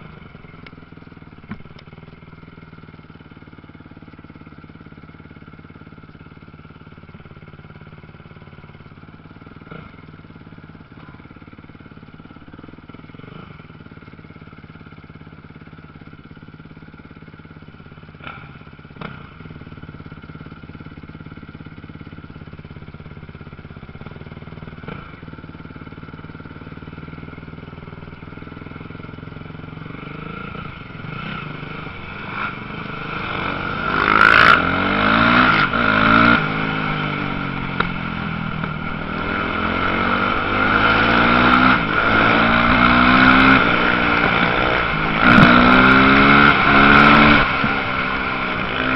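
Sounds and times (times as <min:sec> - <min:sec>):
motocross motorcycle engines droning: 0:00.0 - 0:48.9.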